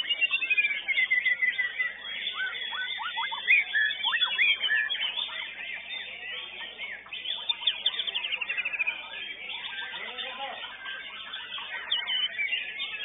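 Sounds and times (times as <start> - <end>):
birds singing whistles and chirps: 0.0 - 13.0
fast repeated bird trill: 0.0 - 13.0.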